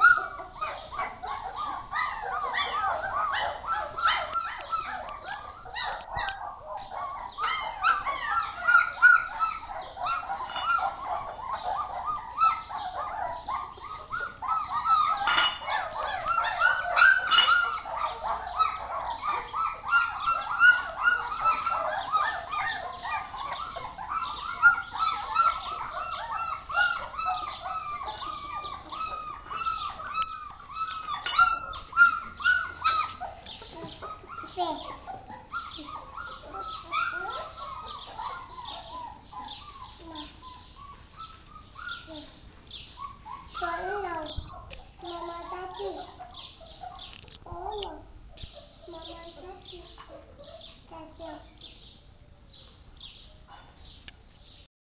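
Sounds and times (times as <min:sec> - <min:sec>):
puppies whimpering and yelping: 0:00.0 - 0:51.4.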